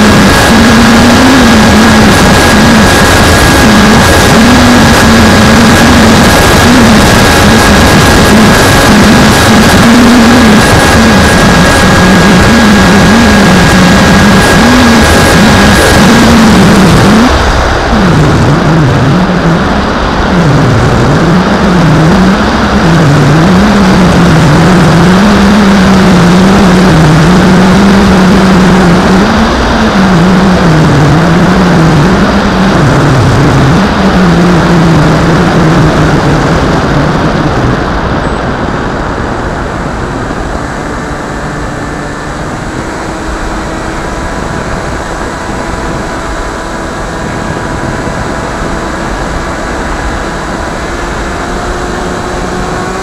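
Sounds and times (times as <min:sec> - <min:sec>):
electric motor and propeller droning: 0:00.0 - 0:53.0
wind rush: 0:00.0 - 0:53.0.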